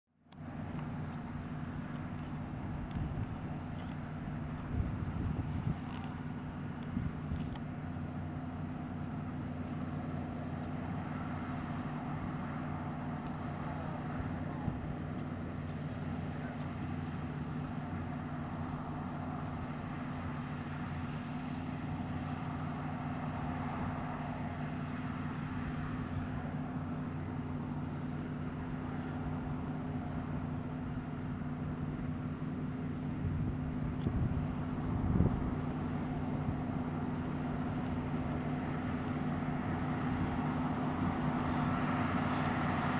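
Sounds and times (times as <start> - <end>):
combine harvester drone: 0.1 - 42.9.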